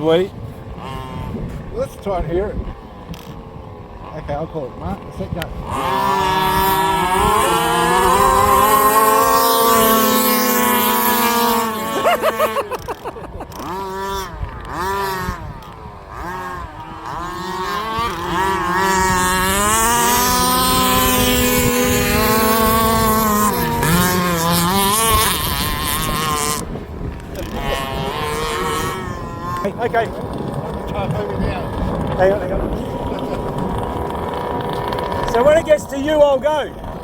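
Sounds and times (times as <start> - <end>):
two-stroke engines revving: 0.0 - 37.0.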